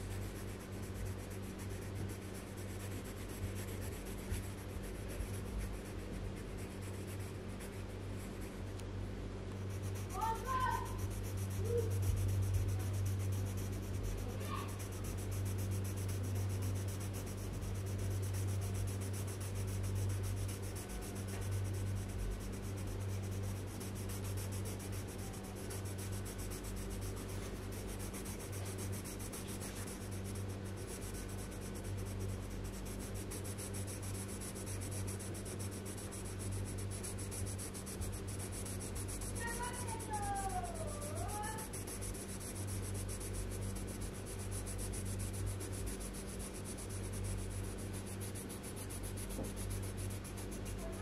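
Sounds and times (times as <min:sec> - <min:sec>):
pencil scratching on paper: 0:00.0 - 0:08.8, 0:09.5 - 0:51.0
steady low hum: 0:00.0 - 0:51.0.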